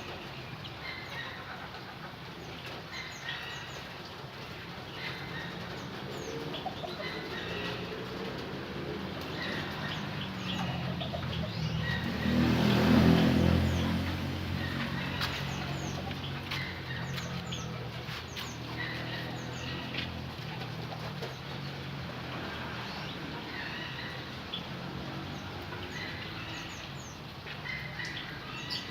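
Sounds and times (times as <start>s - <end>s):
canaries chirping: 0.0s - 28.9s.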